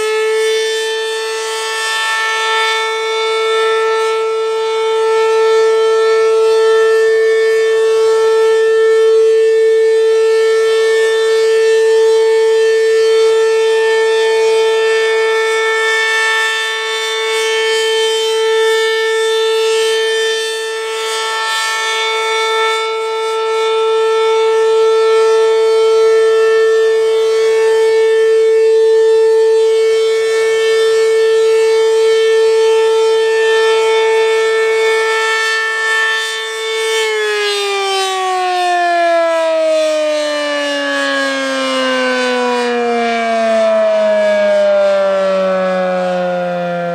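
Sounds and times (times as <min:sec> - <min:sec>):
rotating siren steady tone: 0:00.0 - 0:46.9.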